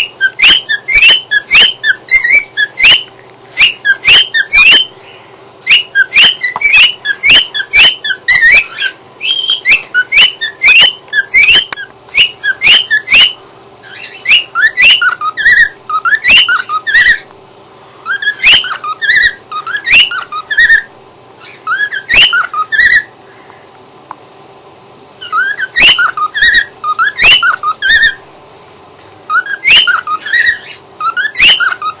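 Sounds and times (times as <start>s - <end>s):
cockatiel whistling: 0.0s - 5.0s, 5.6s - 17.3s, 18.0s - 23.1s, 25.2s - 28.2s, 29.3s - 32.0s.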